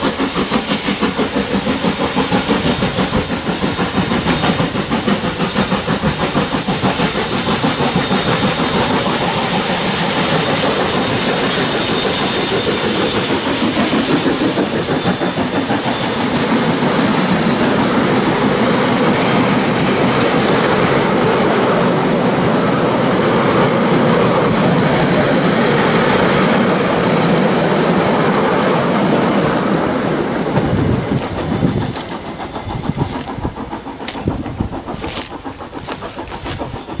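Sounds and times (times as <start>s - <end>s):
train wheels rumbling and clicking: 0.0s - 37.0s.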